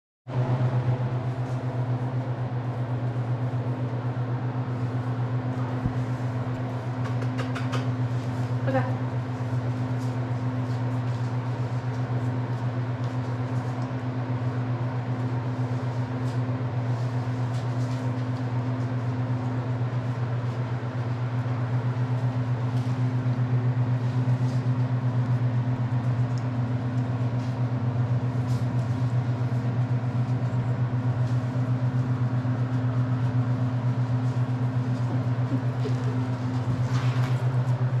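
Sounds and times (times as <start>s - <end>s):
low mechanical hum: 0.3s - 38.0s.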